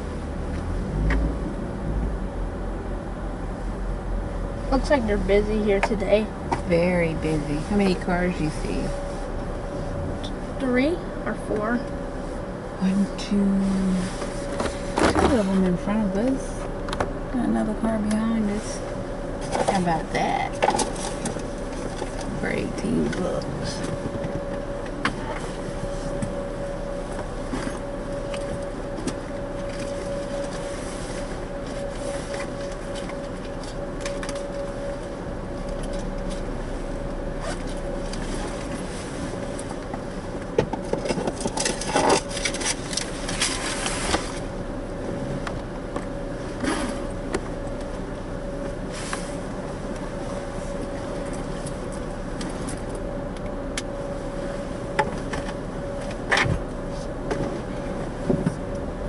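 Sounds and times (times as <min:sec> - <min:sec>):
car engine idling: 0:00.0 - 0:59.0
thin steady whine: 0:00.0 - 0:59.0.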